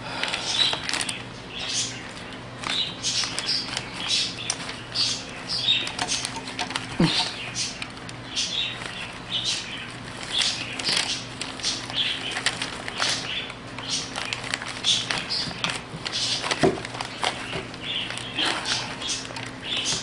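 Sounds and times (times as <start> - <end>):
rustling and small clicks of wiring: 0.3 - 20.0.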